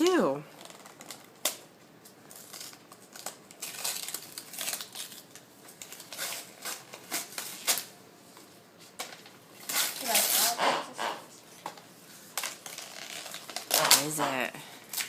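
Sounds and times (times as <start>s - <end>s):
wrapping paper tearing and crinkling: 0.5s - 15.0s.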